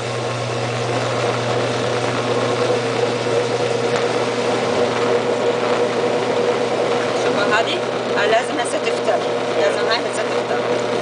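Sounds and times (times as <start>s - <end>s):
washing machine pump humming: 0.0s - 11.0s.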